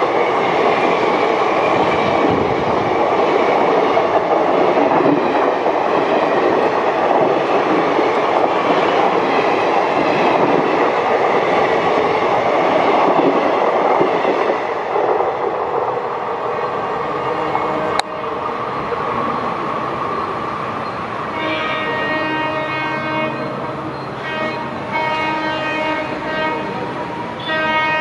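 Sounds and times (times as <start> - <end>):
train wheels running on rails: 0.0 - 28.0.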